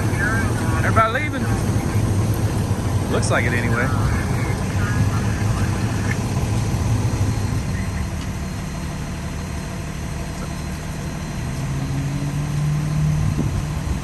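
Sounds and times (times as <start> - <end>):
car engines idling: 0.0 - 14.0
vehicle pulling away: 0.0 - 14.0.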